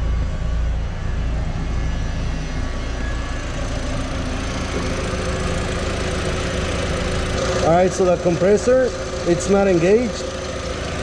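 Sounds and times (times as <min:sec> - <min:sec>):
car engine idling: 0:00.0 - 0:11.0
steady higher tone: 0:00.0 - 0:11.0.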